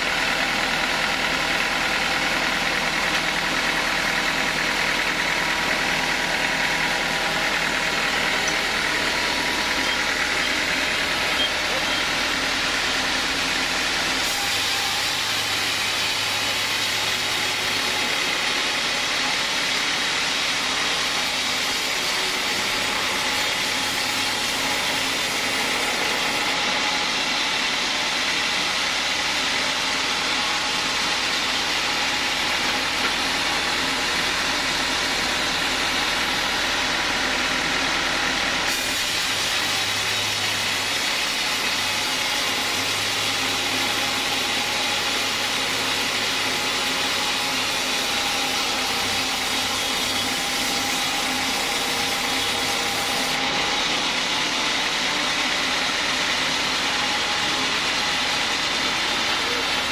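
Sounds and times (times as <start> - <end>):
band sawmill sawing log: 0.0 - 59.9.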